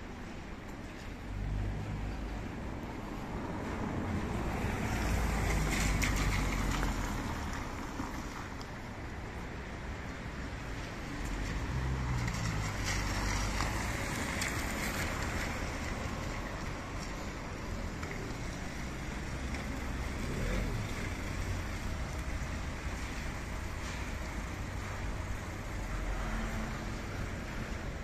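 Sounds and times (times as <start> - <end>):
tyres hissing on wet road: 1.3 - 8.6, 9.3 - 28.0.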